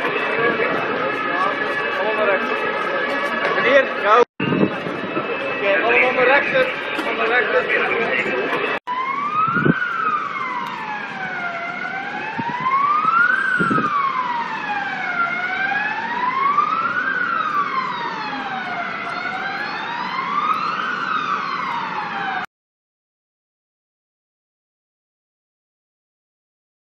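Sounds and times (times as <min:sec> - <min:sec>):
emergency vehicle siren wailing: 0:00.0 - 0:22.5.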